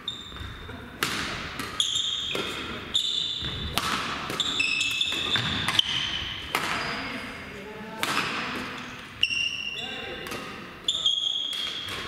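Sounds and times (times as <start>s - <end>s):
shoes squeaking on court floor: 0.0s - 7.3s, 8.7s - 12.0s
rackets hitting shuttlecock: 0.3s - 7.2s, 7.9s - 12.0s.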